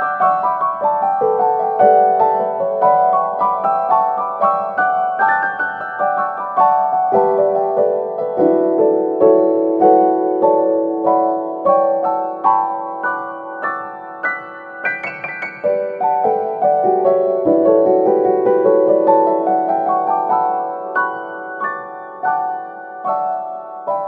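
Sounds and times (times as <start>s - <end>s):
piano single notes: 0.0s - 24.0s.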